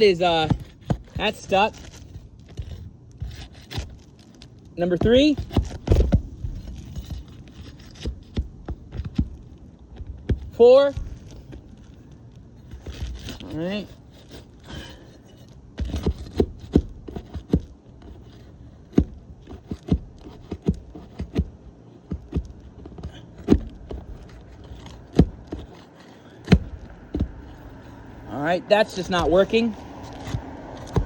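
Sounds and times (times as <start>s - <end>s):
crowbar scraping shingles: 0.0s - 31.0s.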